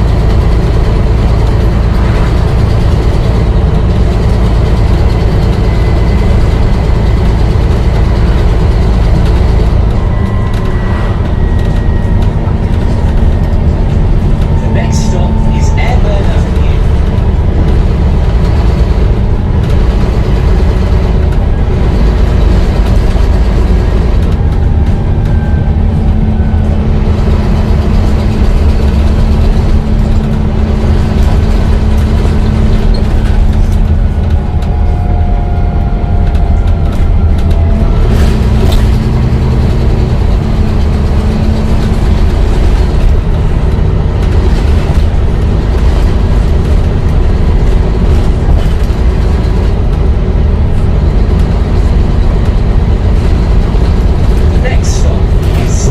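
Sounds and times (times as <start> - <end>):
bus engine rumble: 0.0 - 55.9
faint shifting whines: 0.0 - 55.9.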